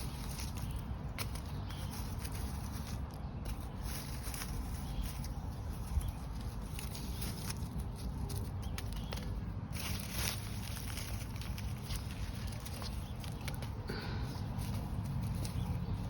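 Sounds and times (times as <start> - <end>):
rustling and scraping of soil: 0.0 - 16.0
steady low rumble: 0.0 - 16.0.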